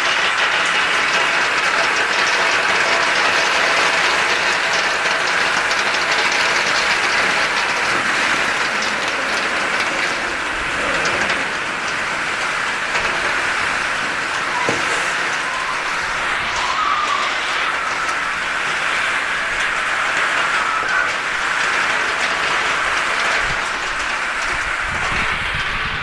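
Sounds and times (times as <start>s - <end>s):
walnuts rattling in a steel drum: 0.0s - 25.4s.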